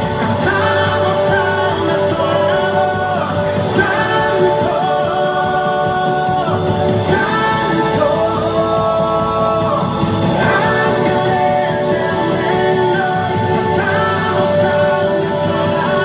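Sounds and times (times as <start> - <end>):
instrumental backing: 0.0 - 16.0
person singing worship song: 0.0 - 16.0.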